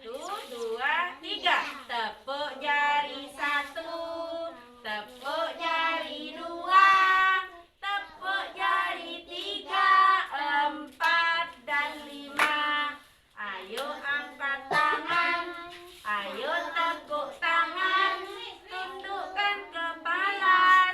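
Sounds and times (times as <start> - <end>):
children singing in unison: 2.5 - 20.9.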